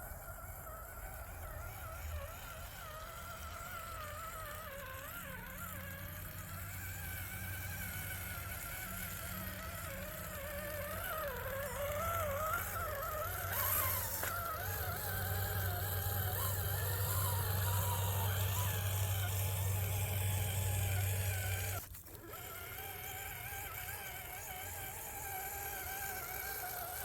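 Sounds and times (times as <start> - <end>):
steady low hum: 0.0 - 27.0
toy car electric motor whining: 0.0 - 27.0.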